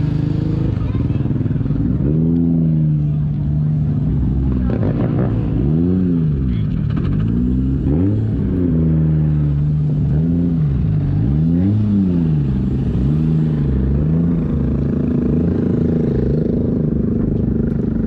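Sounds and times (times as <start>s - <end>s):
car engine revving: 1.6s - 18.0s.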